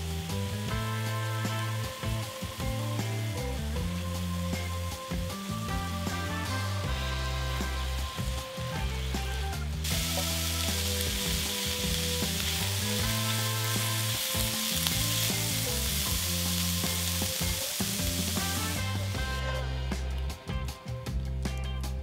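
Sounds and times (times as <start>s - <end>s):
vegetables sizzling in a frying pan: 0.0s - 20.2s
soft background music: 0.0s - 22.0s.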